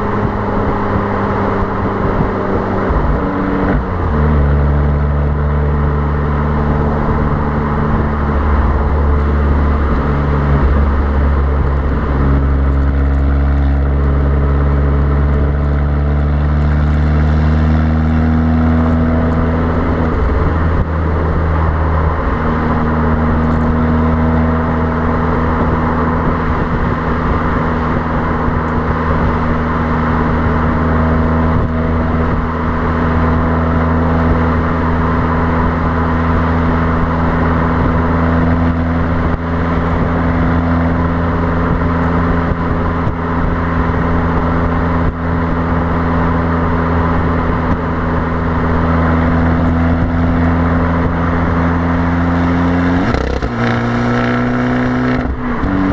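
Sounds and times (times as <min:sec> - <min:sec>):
car exhaust droning: 0:00.0 - 0:55.9
wind rushing over microphone: 0:00.0 - 0:55.9.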